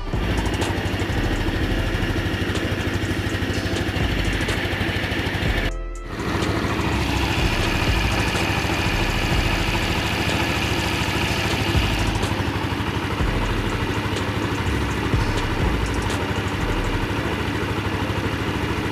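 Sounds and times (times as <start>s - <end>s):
scooter engine idling: 0.0s - 18.9s.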